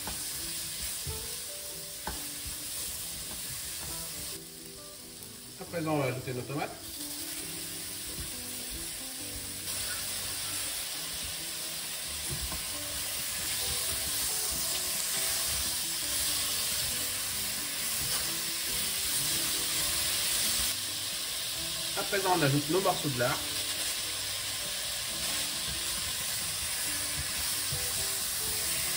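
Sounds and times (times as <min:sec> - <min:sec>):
vegetables sizzling in hot oil: 0:00.0 - 0:28.9.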